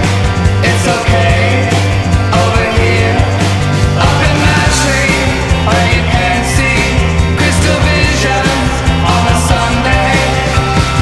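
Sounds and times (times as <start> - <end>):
psychedelic rock band: 0.0 - 11.0.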